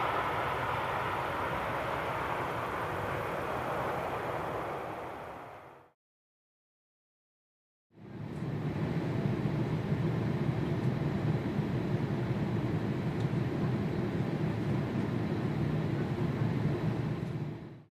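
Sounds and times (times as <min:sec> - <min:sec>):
jet engines rumbling: 0:00.0 - 0:06.0, 0:08.0 - 0:17.9.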